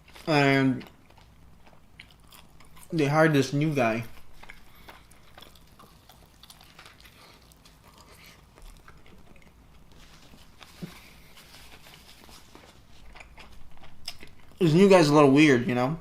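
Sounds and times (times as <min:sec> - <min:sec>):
person chewing: 0:00.0 - 0:14.7.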